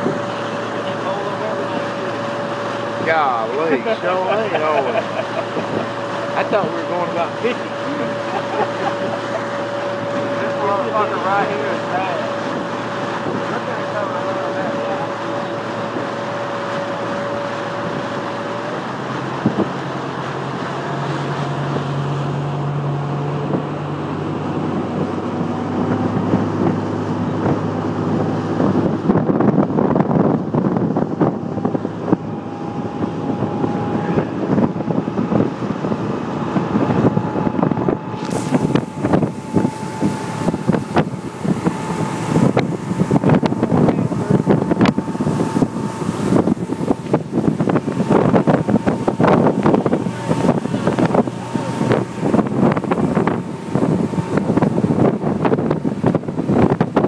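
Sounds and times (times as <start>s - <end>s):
boat motor whining: 0.0s - 57.0s
wind buffeting microphone: 0.0s - 57.0s.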